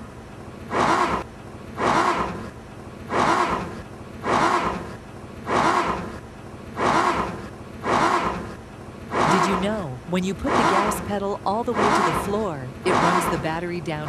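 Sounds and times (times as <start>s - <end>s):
car engine cranking slowly: 0.0s - 14.0s.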